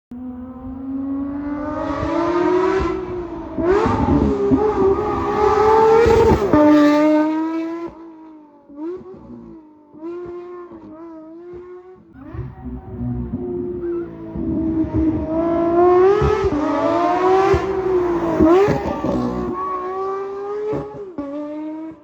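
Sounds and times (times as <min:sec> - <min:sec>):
car engine revving: 0:00.1 - 0:22.0.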